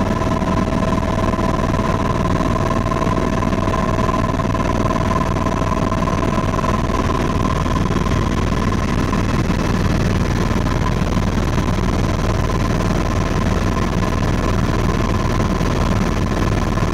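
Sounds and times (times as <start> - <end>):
helicopter engine and rotor drone: 0.0 - 16.9
thin steady whine: 0.0 - 16.9.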